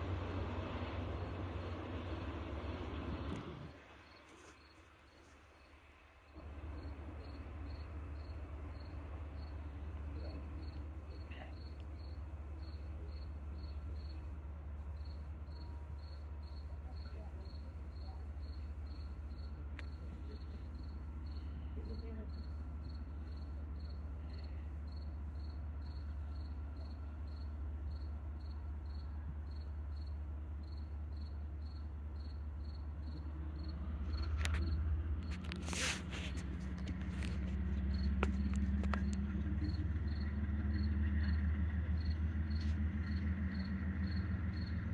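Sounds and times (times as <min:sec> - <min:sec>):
crickets chirping: 0:00.0 - 0:44.9
diesel locomotive rumble: 0:00.0 - 0:44.9.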